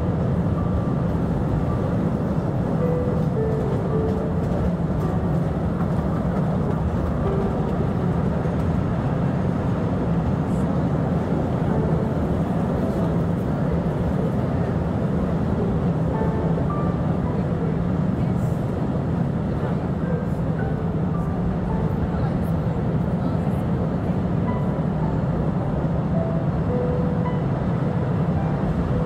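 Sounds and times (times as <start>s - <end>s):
train rumbling along rails: 0.0s - 29.0s.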